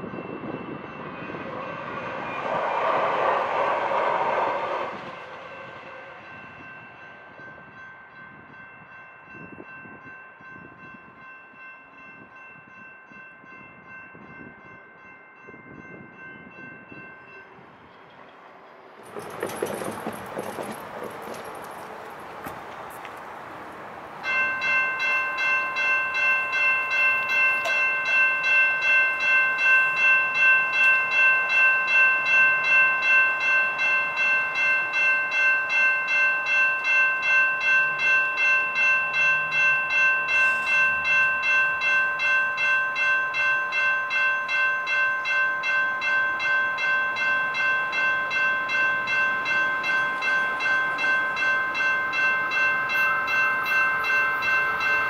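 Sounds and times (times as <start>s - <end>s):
railroad crossing bell ringing: 0.0s - 18.1s, 19.0s - 23.1s, 24.1s - 55.0s.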